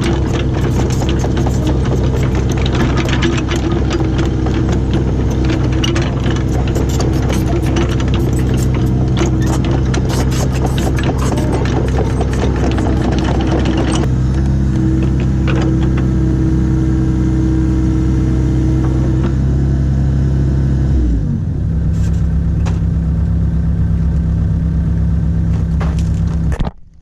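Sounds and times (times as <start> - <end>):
excavator diesel engine running: 0.0 - 26.6.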